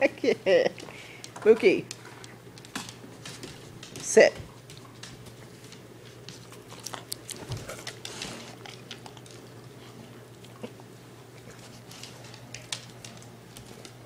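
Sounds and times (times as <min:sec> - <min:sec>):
dog crunching a cookie: 0:00.8 - 0:14.0.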